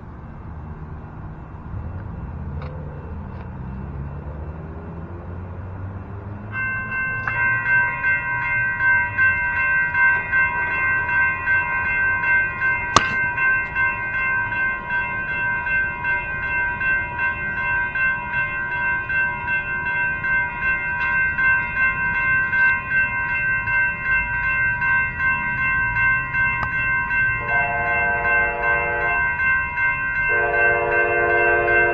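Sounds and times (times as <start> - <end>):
railroad crossing bells ringing: 0.0 - 31.9.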